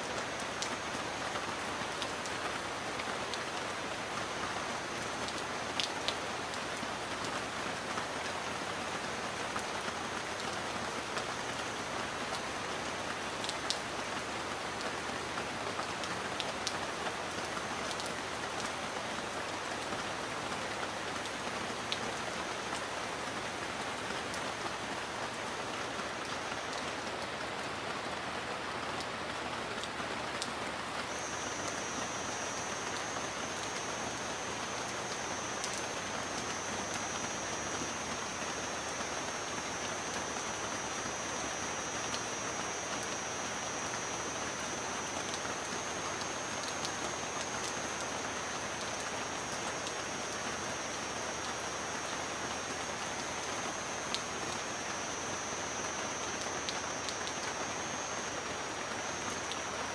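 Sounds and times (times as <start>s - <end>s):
heavy rain falling: 0.0s - 59.9s
raindrops clicking on a surface: 5.2s - 8.4s, 9.5s - 25.1s, 29.8s - 59.8s.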